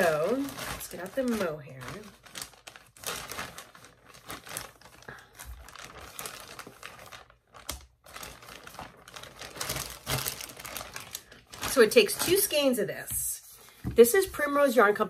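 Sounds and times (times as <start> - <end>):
plastic packaging crackling: 0.0 - 13.2.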